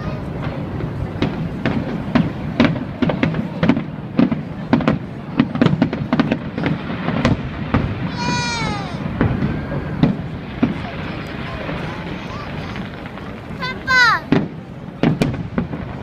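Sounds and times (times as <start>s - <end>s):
fireworks bangs and crackles: 0.0s - 16.0s
steady background noise: 0.0s - 16.0s.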